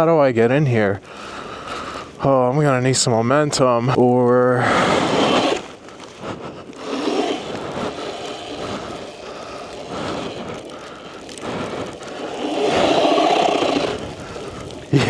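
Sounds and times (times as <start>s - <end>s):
tyres churning snow: 0.0s - 15.0s.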